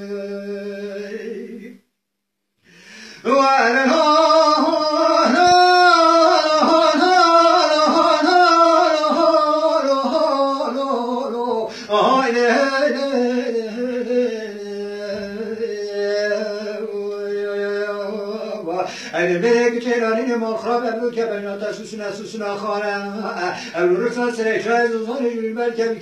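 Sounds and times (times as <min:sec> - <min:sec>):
man singing: 0:00.0 - 0:01.9, 0:03.1 - 0:26.0.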